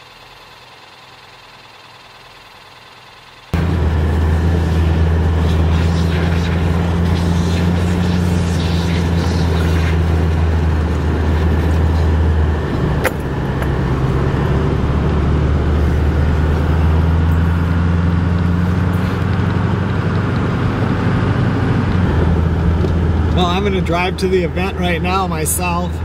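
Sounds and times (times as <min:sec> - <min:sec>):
truck engine humming: 0:00.0 - 0:26.0.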